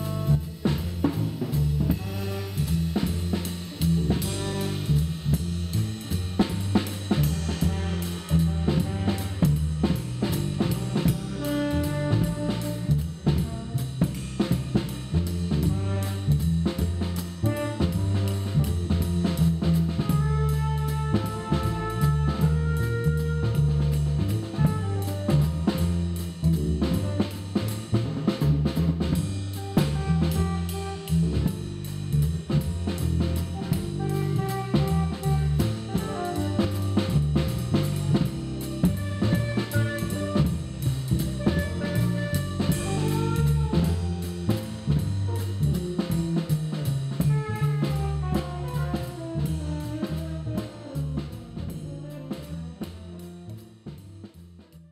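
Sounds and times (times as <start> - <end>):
bass line: 0.0 - 54.9
drum kit playing a beat: 0.0 - 54.9.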